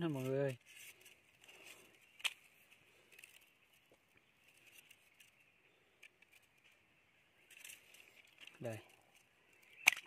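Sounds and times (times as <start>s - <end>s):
small patters and ticks: 0.0s - 10.0s.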